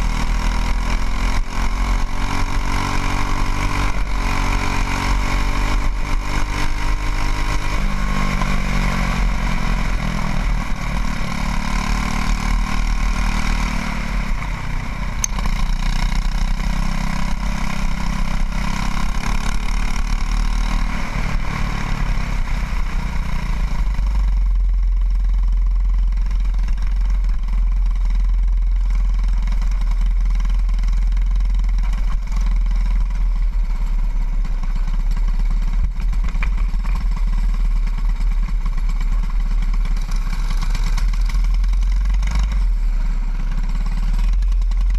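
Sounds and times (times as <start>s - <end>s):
kart engine revving: 0.0s - 44.9s.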